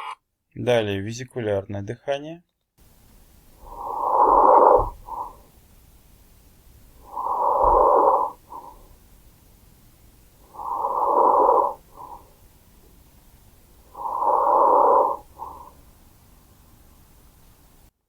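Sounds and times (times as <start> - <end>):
breath sounds through stethoscope: 2.8 - 17.5.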